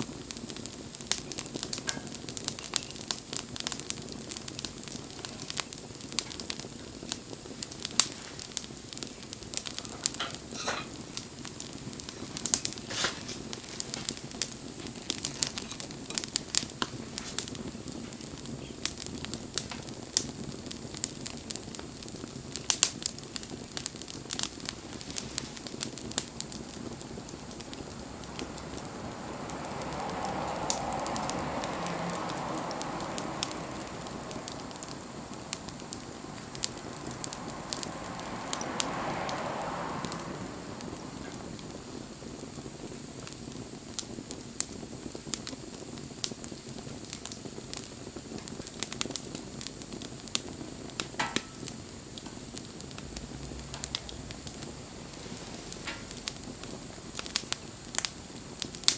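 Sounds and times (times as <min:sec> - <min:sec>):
soft rushing hiss: 0:00.0 - 0:58.9
wood fire crackling and popping: 0:00.0 - 0:58.9.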